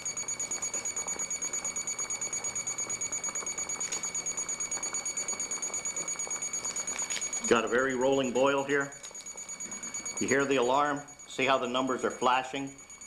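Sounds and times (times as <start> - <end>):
thermometer alarm beeping: 0.0 - 13.0.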